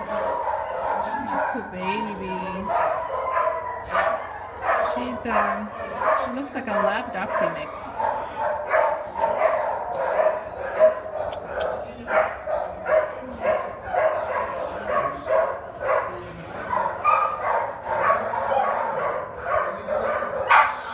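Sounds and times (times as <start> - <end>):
dogs barking and yipping: 0.0 - 20.9.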